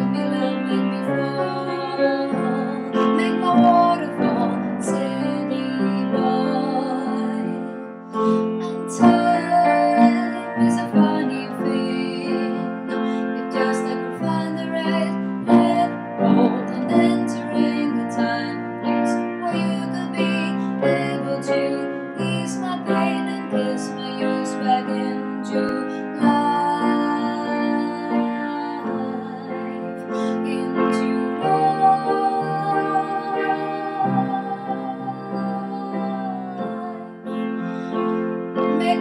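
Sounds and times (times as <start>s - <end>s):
grand piano chords: 0.0s - 39.0s
woman singing: 0.0s - 39.0s.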